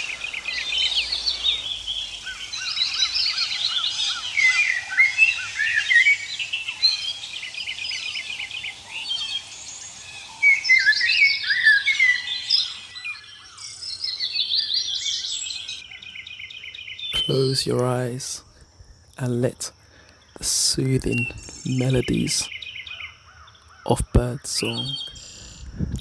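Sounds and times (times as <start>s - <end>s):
songbirds singing: 0.0s - 25.9s.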